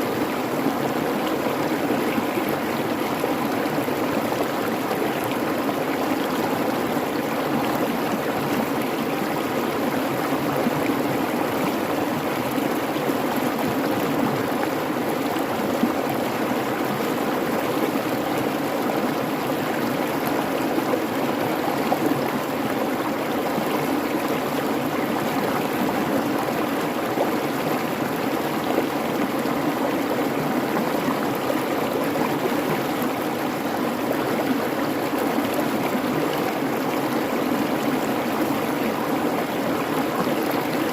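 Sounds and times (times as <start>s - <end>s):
creek water babbling over stones: 0.0s - 40.9s.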